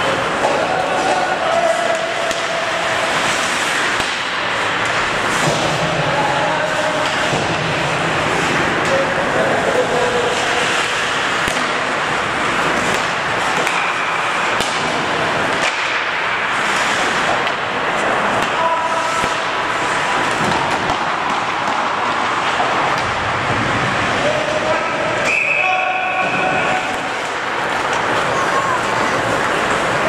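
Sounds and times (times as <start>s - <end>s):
hockey sticks and puck clacking: 0.0s - 30.0s
skates scraping ice: 0.0s - 30.0s.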